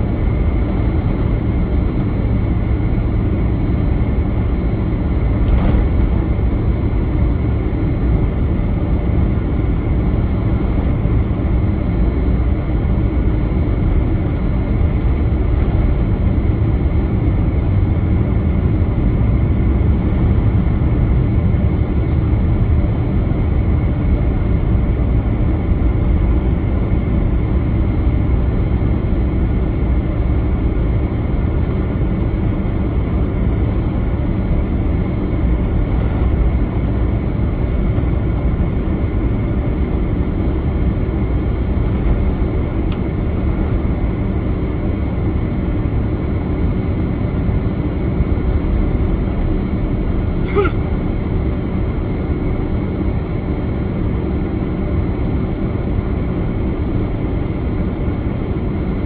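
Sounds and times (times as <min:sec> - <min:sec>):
aircraft cabin low rumble: 0:00.0 - 0:59.0
faint high engine whine: 0:00.0 - 0:59.0.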